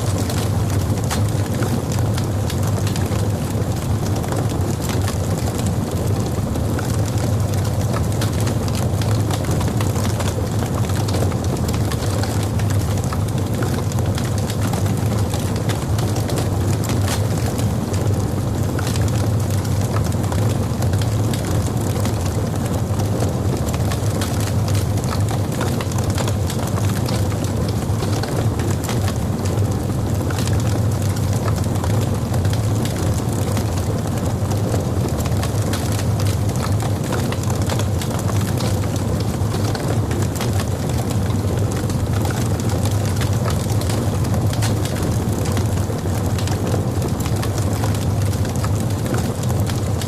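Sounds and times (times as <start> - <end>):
fire crackling and popping: 0.0 - 50.0
low rumble of fire: 0.0 - 50.0.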